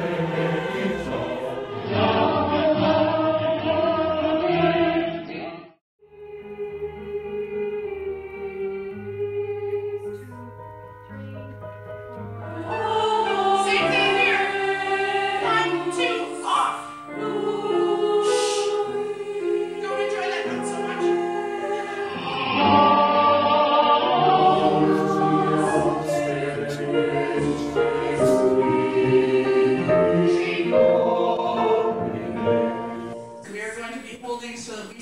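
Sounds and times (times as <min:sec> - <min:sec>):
choir singing long notes: 0:00.0 - 0:10.7, 0:12.4 - 0:33.4.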